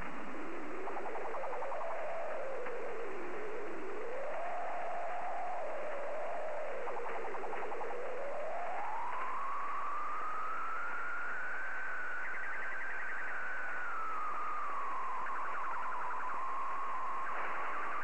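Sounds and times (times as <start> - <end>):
warbling whistling radio tone: 0.0 - 18.0.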